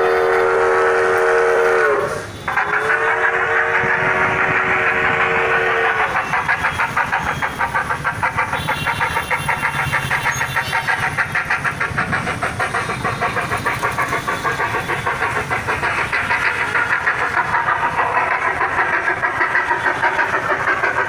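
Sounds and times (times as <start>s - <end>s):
steam locomotive chuffing: 0.0s - 21.0s.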